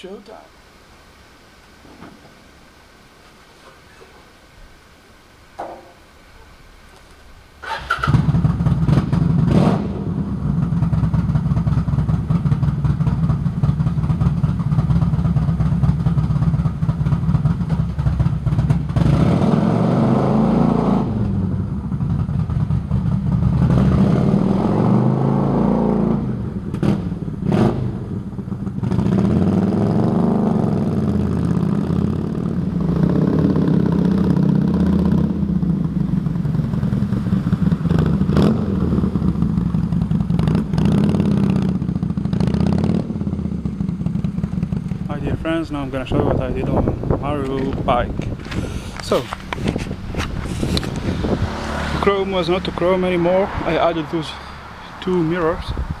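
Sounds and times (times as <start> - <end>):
motorcycle engine idling and revving: 7.6 - 56.0.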